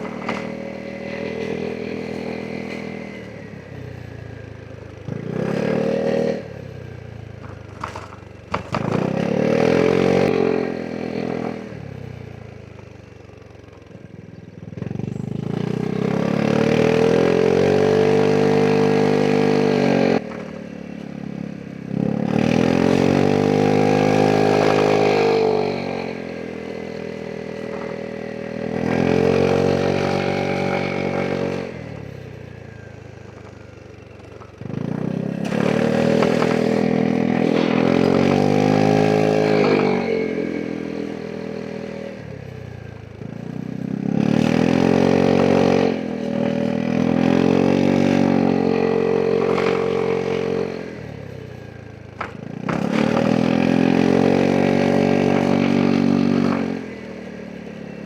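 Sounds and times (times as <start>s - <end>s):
scooter engine accelerating: 0.0s - 58.0s.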